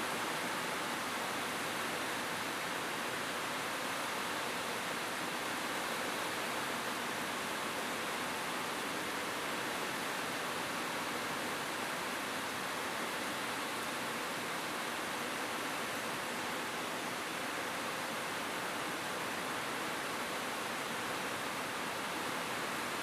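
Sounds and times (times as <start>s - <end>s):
rain on a rooftop: 0.0s - 23.0s.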